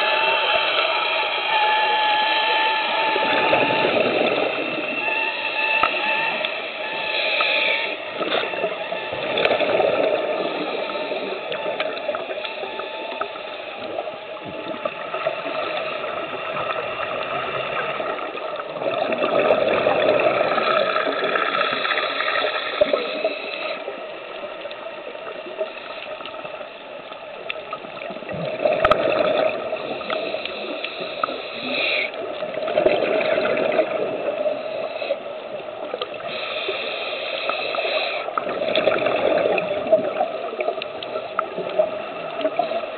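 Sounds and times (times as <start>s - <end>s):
muffled underwater water rush: 0.0s - 42.9s.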